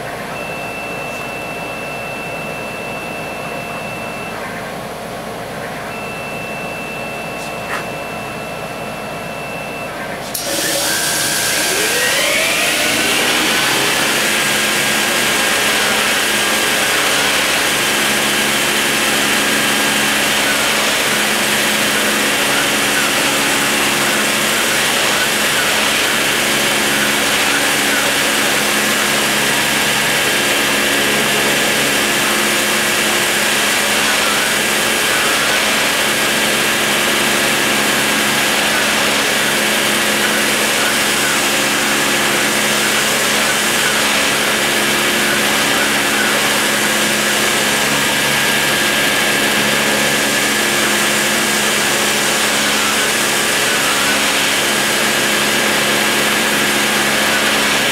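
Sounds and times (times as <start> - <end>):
machine axes humming: 0.0 - 57.9
rotary tool whining: 10.3 - 57.9.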